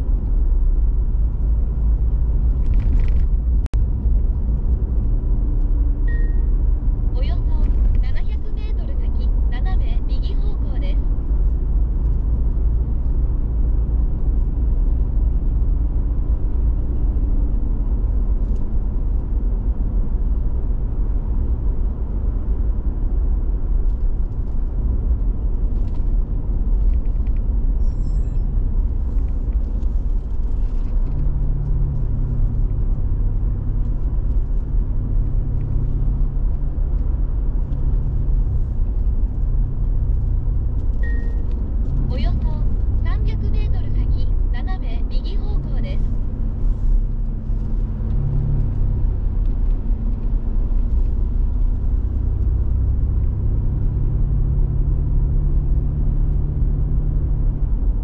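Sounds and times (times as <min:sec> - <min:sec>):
car engine rumble: 0:00.0 - 0:58.0
tyre road noise: 0:00.0 - 0:58.0.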